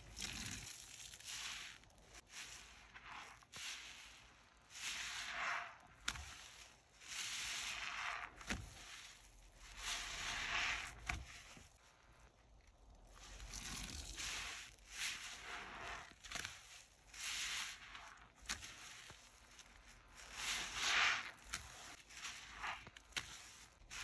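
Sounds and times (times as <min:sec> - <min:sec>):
wet sponge squelching: 0:00.0 - 0:24.0.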